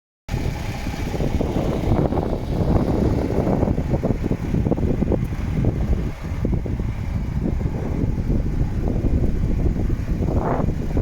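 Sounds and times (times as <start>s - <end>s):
diesel truck engine rumbling: 0.3s - 11.0s.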